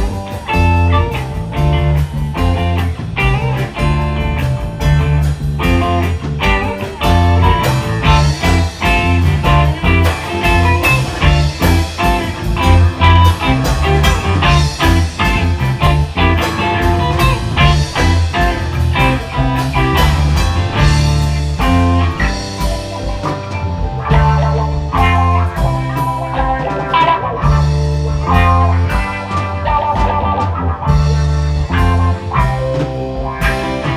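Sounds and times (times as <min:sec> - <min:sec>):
blues-rock music: 0:00.0 - 0:33.9.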